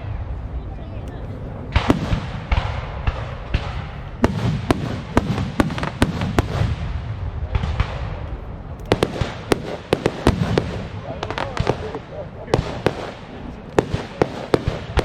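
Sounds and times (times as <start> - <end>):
low rumble: 0.0 - 13.8
firework cracks and crackles: 0.0 - 15.0
firework shells bursting: 1.0 - 15.0.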